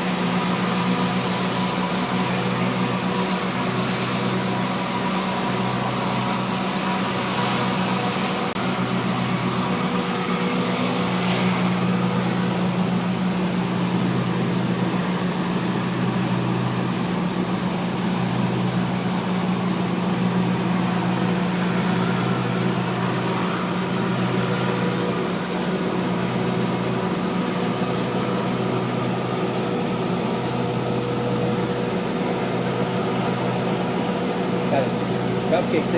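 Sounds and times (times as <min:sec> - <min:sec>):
engine-like hum: 0:00.0 - 0:35.9.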